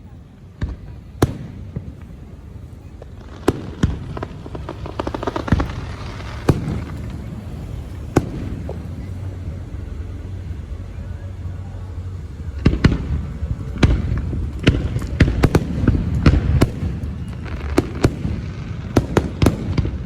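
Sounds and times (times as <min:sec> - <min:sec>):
firecrackers crackling: 0:00.0 - 0:20.0
firecracker bangs: 0:00.6 - 0:09.6, 0:12.4 - 0:20.0.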